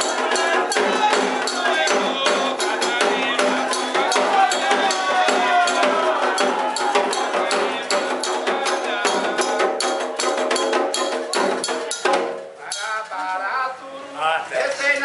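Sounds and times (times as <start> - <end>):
hand drums and struck percussion: 0.0 - 13.1
group of voices singing: 0.0 - 14.6.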